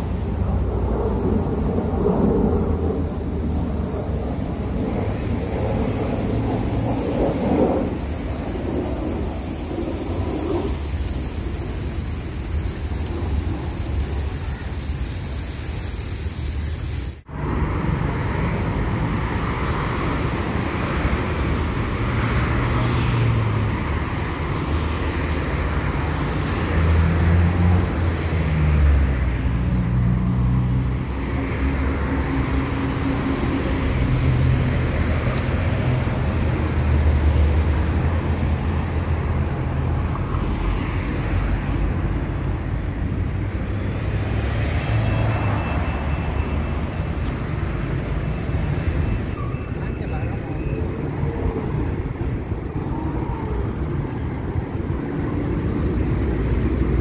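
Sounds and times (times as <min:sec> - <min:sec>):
lawn sprinklers spraying water: 0:00.0 - 0:17.4, 0:23.8 - 0:57.0
cars passing: 0:00.0 - 0:57.0.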